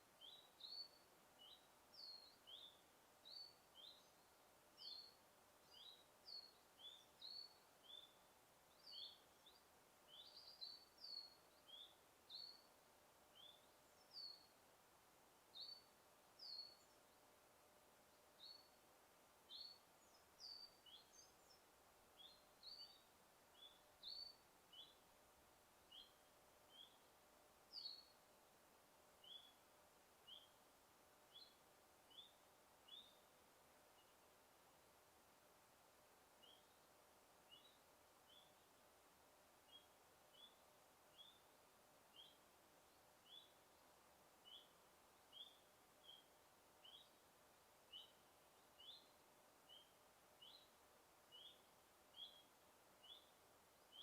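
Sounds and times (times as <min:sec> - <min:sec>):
faint bird chirping: 0:00.0 - 0:54.0
forest ambience hiss: 0:00.0 - 0:54.0.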